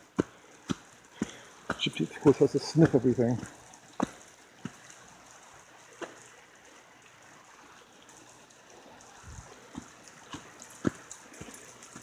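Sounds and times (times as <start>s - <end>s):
light rain hiss: 0.0s - 12.0s.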